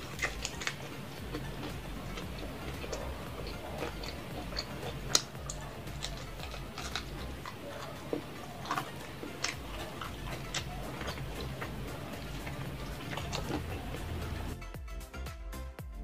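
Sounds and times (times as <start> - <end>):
wet mouth clicks and smacks: 0.0 - 14.4
person chewing fried chicken: 0.0 - 14.6.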